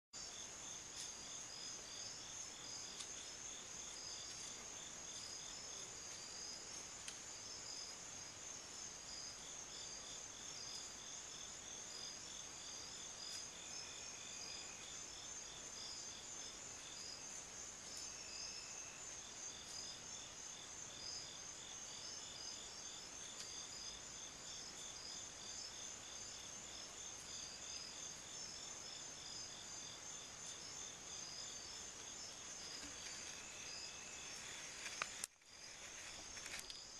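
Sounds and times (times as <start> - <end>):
cricket trills: 0.2 - 36.9
pulsed cricket chirping: 0.2 - 36.9.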